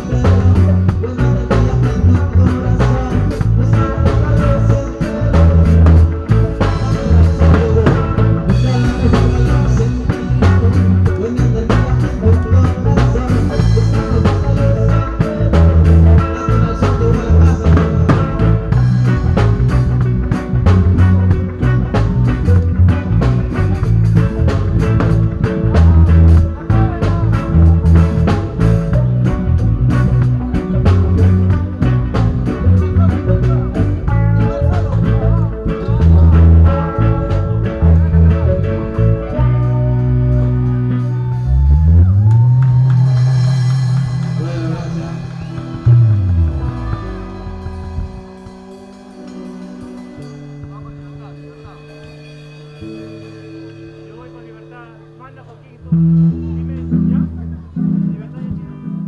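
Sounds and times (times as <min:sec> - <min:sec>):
drum kit: 0:00.0 - 0:58.1
electric guitar: 0:00.0 - 0:59.0
heavy repeating bass line: 0:00.0 - 0:59.0.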